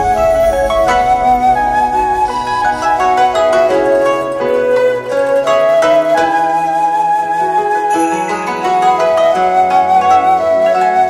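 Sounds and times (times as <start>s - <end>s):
gentle flute melody: 0.0s - 11.0s
soft musical accompaniment: 0.0s - 11.0s.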